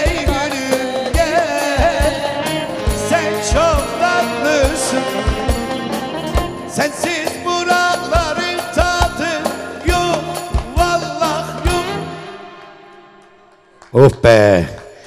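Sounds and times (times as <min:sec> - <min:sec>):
ornamented folk melody: 0:00.0 - 0:12.9.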